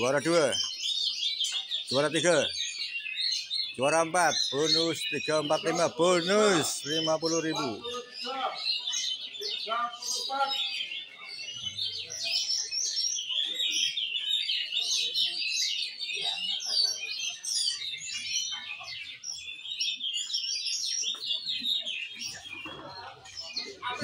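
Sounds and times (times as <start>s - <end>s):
songbirds chorus of whistles: 0.0s - 24.0s.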